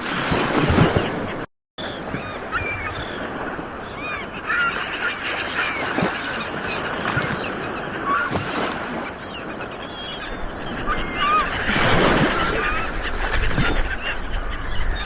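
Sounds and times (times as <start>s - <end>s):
ocean waves breaking: 0.0s - 14.9s.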